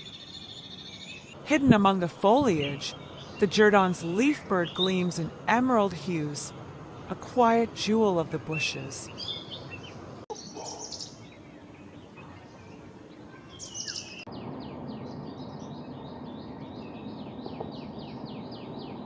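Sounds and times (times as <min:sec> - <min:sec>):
birds chirping: 0:00.0 - 0:19.0
faint outdoor hiss: 0:00.0 - 0:19.0
repeated down-slurred bird notes: 0:00.0 - 0:19.0.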